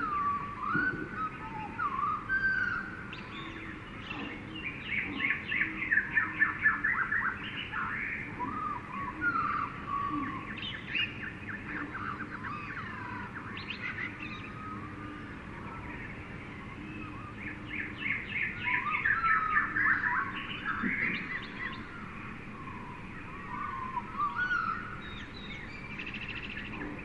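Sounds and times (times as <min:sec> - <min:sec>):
birds calling and chirping: 0:00.0 - 0:27.0
rapid repeated bird calls: 0:00.0 - 0:27.0
whistled gliding bird notes: 0:00.0 - 0:27.0.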